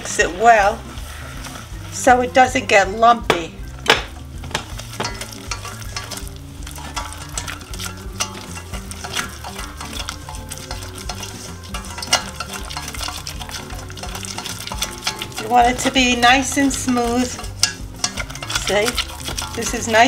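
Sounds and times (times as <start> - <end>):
wire whisk scraping a metal pan: 0.0 - 2.8, 3.7 - 20.0.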